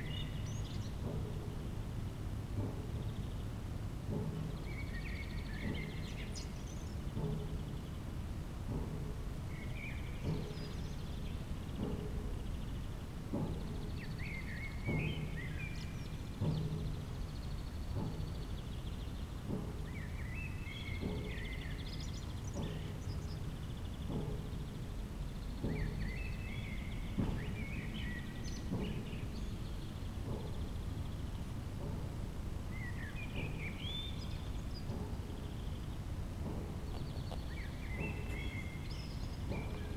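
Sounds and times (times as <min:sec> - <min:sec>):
birds singing: 0:00.0 - 0:39.9
dull ringing knocks: 0:00.0 - 0:39.9
low outdoor rumble: 0:00.0 - 0:39.9.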